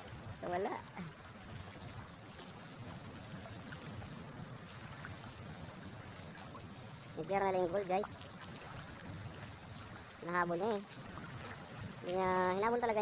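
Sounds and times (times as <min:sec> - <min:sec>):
choppy sea water: 0:00.0 - 0:13.0.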